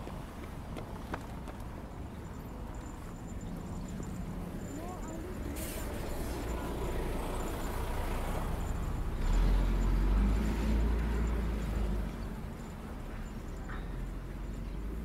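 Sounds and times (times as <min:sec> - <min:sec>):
vehicle passing: 0:02.4 - 0:15.0.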